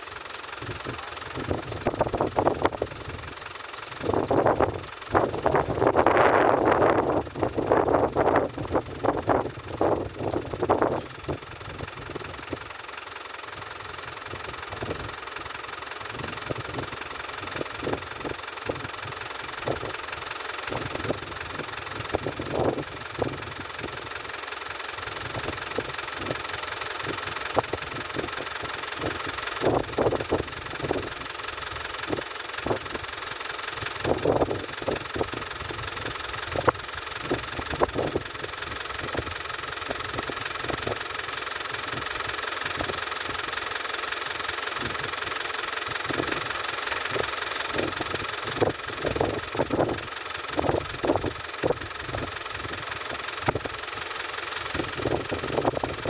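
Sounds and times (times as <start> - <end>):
engine idling with uneven bumps: 0.0 - 56.0.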